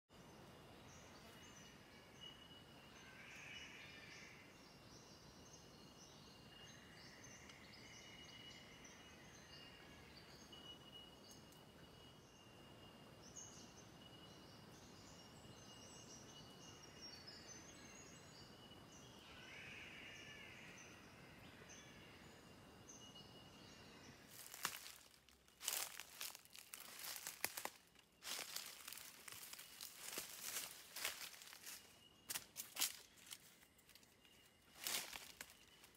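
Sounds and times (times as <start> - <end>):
steady high-pitched insect tone: 0.4 - 35.9.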